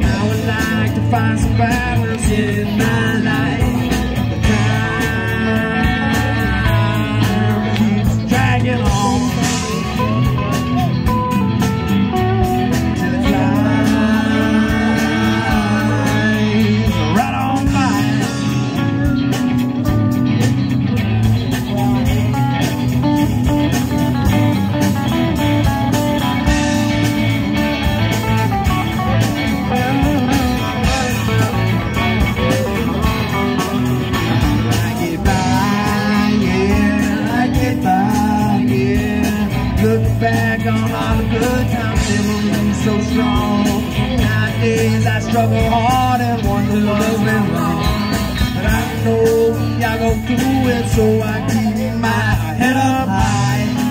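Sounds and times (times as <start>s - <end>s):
bass guitar: 0.0s - 53.9s
electric guitar playing blues rock: 0.0s - 53.9s
steady drum beat: 0.0s - 53.9s.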